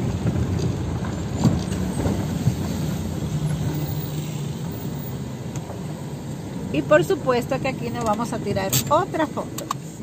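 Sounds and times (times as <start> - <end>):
car engine and road drone: 0.0 - 10.0.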